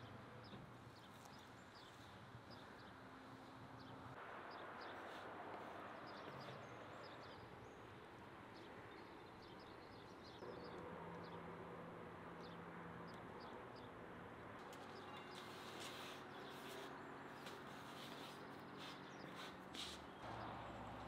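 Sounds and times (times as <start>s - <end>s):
small birds chirping: 0.0s - 11.4s, 14.6s - 21.0s.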